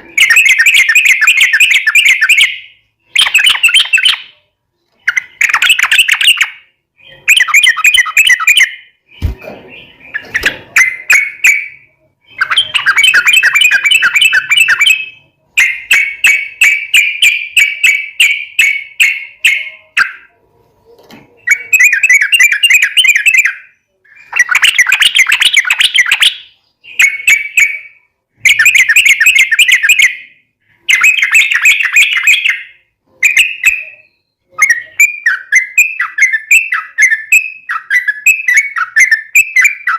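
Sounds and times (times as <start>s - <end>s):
bulbul chattering song: 0.0s - 20.4s, 21.4s - 39.9s.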